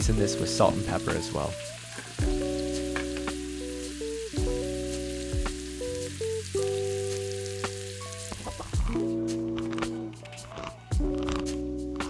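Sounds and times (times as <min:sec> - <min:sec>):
background music with held chords: 0:00.0 - 0:12.0
vegetables sizzling in a pot: 0:00.0 - 0:12.0.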